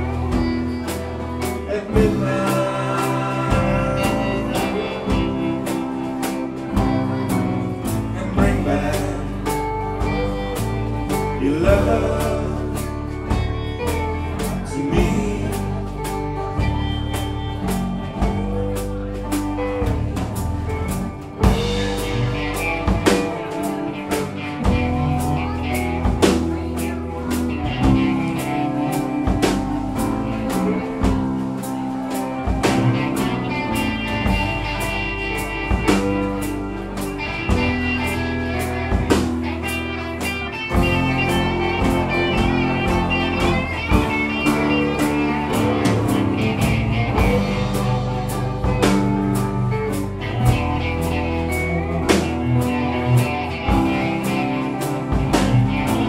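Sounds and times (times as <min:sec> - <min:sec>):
bass guitar: 0:00.0 - 0:56.0
drum kit steady beat: 0:00.0 - 0:56.0
electric guitar lead line: 0:00.0 - 0:56.0.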